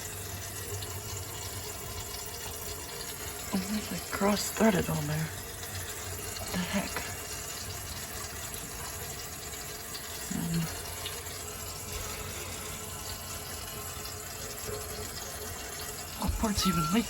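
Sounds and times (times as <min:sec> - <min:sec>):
water running from faucet into sink: 0:00.0 - 0:17.0.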